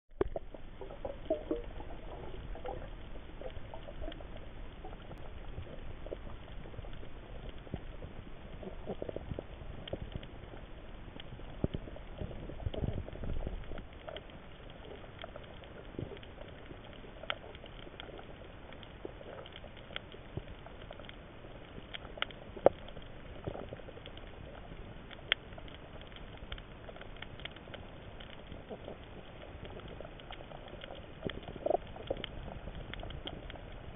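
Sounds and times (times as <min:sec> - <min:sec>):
crackle of clicks and pops: 0:00.1 - 0:33.9
low rumble of water movement: 0:00.1 - 0:33.9.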